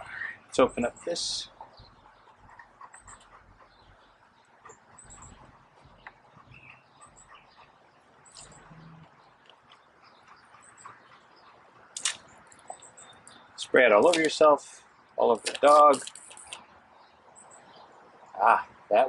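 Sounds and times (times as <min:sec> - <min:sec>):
bird chirps: 0:00.0 - 0:18.7.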